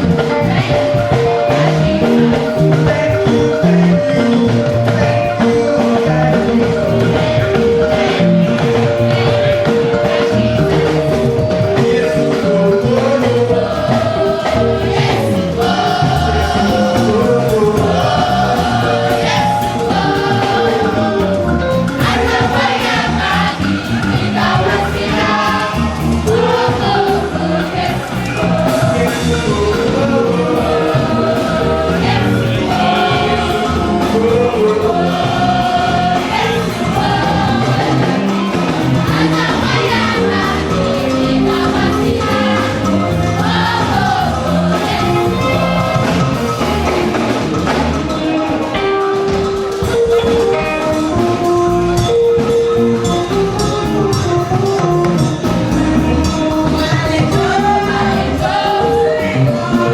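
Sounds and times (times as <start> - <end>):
gospel choir with instruments: 0.0 - 59.9.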